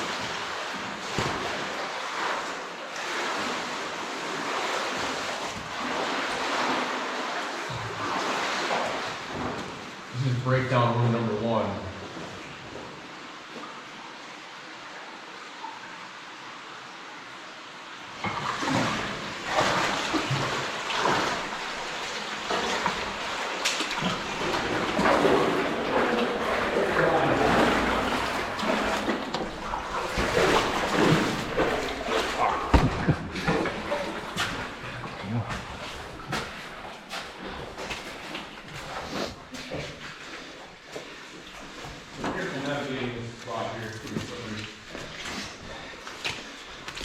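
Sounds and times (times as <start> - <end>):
flowing cave water: 0.0 - 47.0.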